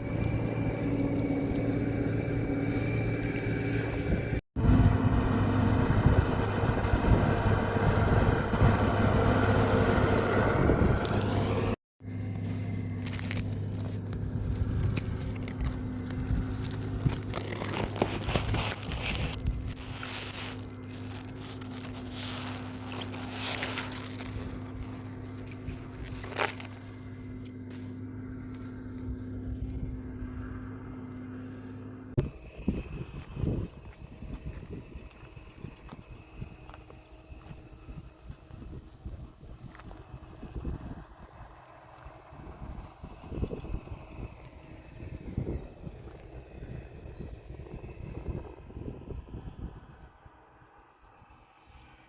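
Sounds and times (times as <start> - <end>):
crackling and scraping: 0.0 - 47.3
combine harvester engine running: 0.0 - 51.9.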